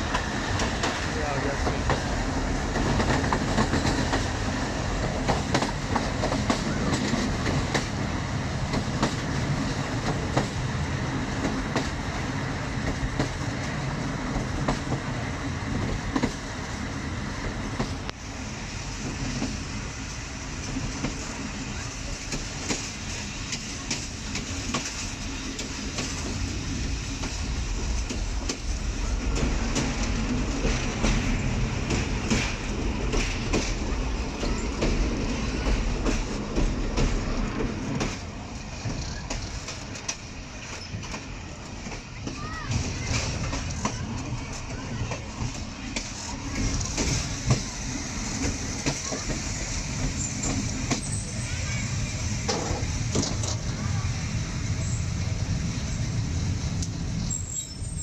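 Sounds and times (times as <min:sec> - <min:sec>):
train wheels clicking over rail joints: 0:00.0 - 0:18.3, 0:18.9 - 0:58.0
train rumble and rattle: 0:00.0 - 0:58.0.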